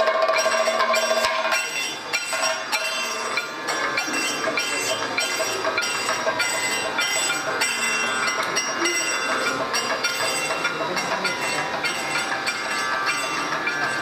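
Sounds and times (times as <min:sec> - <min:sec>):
metal hand cymbals: 0:00.0 - 0:14.0.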